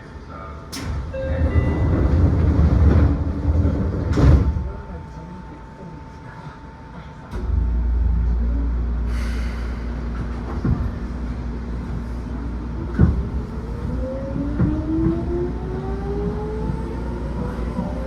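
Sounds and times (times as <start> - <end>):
train running gear hum: 0.0 - 18.0.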